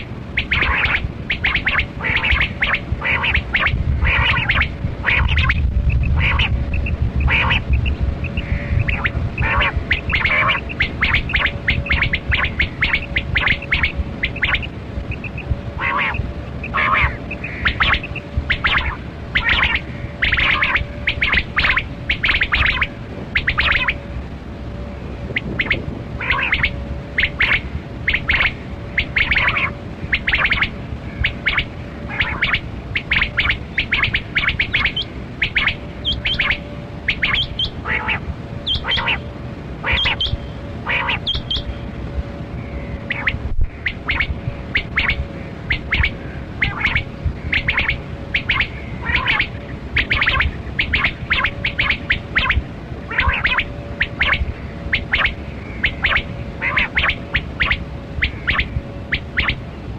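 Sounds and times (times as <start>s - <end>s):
quail calling: 0.0s - 24.1s, 25.3s - 41.8s, 42.6s - 59.6s
faint steady hum: 0.0s - 59.9s.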